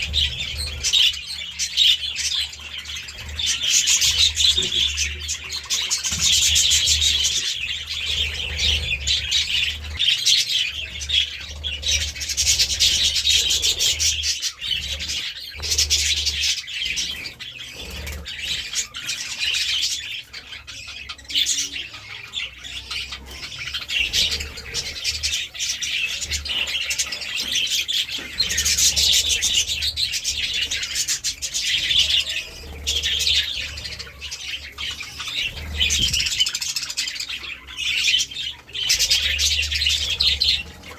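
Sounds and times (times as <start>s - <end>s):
budgerigars chattering: 0.0s - 40.9s.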